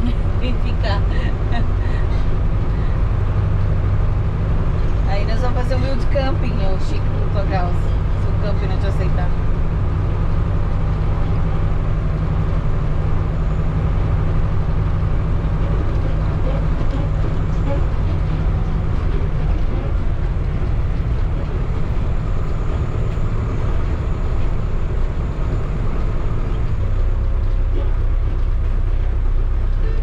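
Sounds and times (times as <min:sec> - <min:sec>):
motorhome engine and road rumble: 0:00.0 - 0:30.0.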